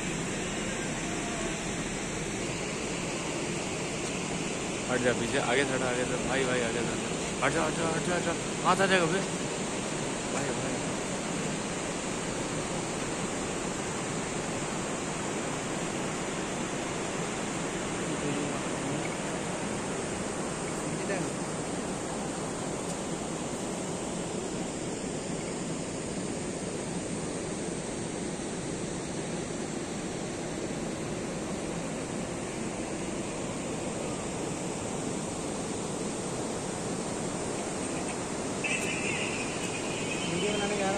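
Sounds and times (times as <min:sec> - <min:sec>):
steady rushing noise: 0:00.0 - 0:40.9
water roaring through bridge arches: 0:00.0 - 0:40.9.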